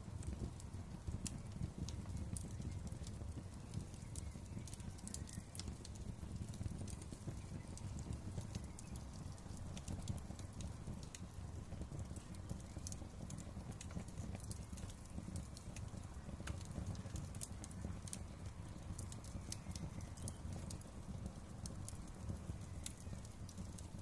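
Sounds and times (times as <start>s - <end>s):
sharp pops of fire: 0.0s - 24.0s
wood fire crackling: 0.0s - 24.0s.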